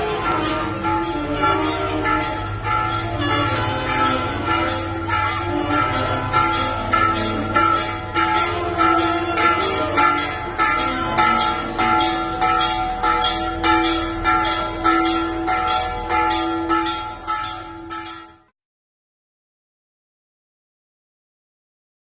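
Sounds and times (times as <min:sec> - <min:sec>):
church bells pealing: 0:00.0 - 0:18.5.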